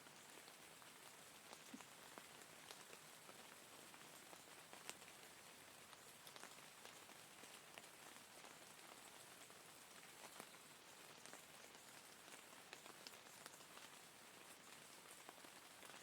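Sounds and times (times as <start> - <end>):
faint rainfall hiss: 0.0 - 16.0.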